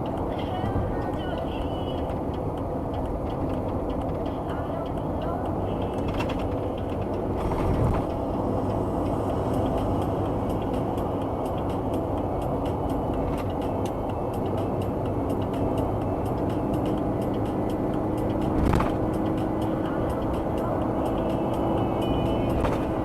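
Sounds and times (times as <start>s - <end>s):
engine and tyre rumble: 0.0s - 23.0s.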